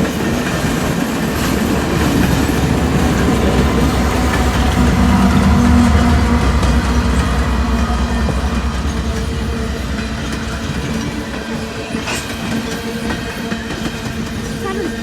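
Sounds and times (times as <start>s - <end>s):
train rumble: 0.0s - 15.0s
train wheels clicking on rail joints: 0.0s - 15.0s.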